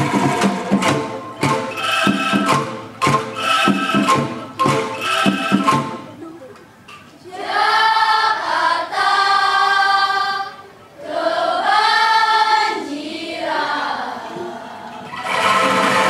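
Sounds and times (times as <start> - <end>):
children's choir singing: 0.0 - 6.2, 7.2 - 16.0.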